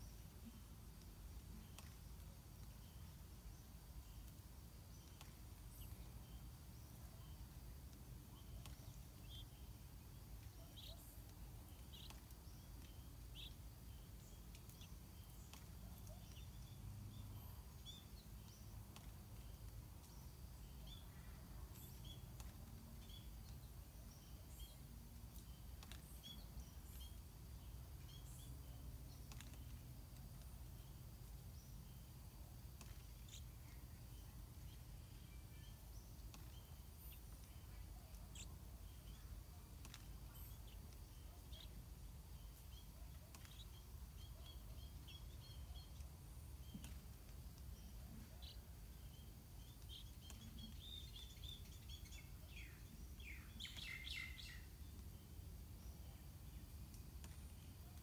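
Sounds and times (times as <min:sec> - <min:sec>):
faint bird chirps: 0:00.0 - 0:29.8, 0:30.4 - 0:58.0.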